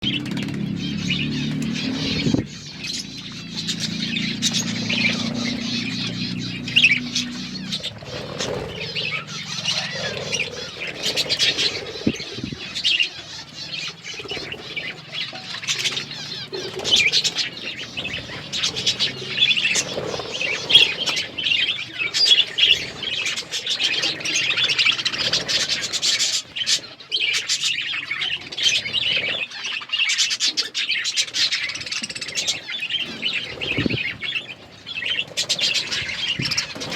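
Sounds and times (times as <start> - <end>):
budgerigars chirping: 0.0 - 36.9.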